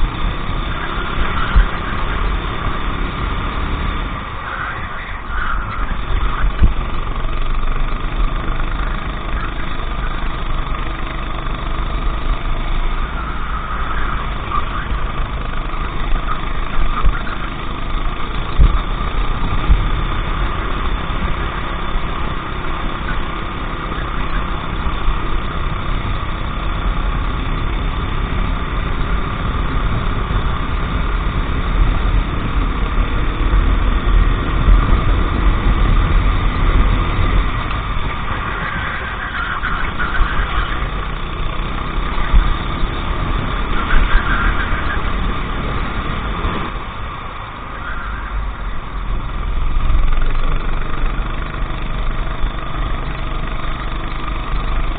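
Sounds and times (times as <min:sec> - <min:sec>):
heavy low rumble: 0:00.0 - 0:54.9
racing kart engine running: 0:00.0 - 0:54.9.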